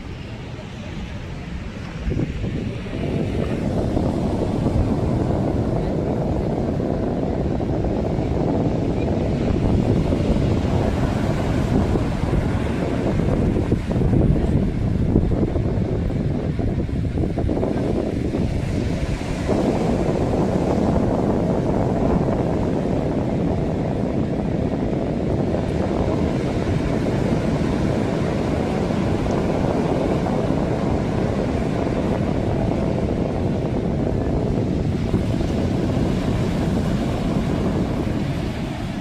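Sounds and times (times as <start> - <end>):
sea waves washing on shore: 0.0 - 39.0
wind buffeting microphone: 0.0 - 39.0.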